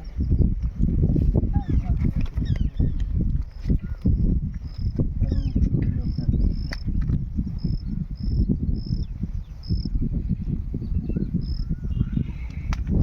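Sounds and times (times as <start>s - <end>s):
insect chirping: 1.6s - 12.5s.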